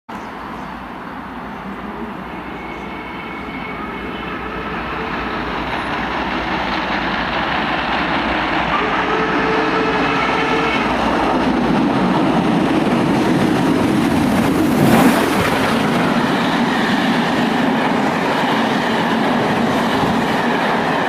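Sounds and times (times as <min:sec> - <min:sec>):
steam locomotive approaching: 0:00.1 - 0:21.0.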